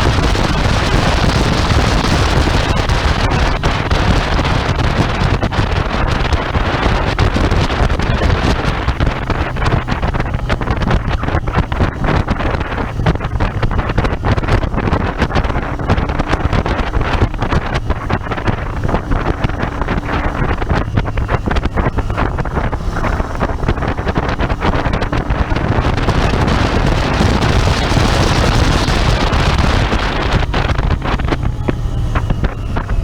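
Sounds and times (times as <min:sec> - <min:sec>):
motorcycle engine running: 0:00.0 - 0:33.0
wind buffeting microphone: 0:00.0 - 0:33.0.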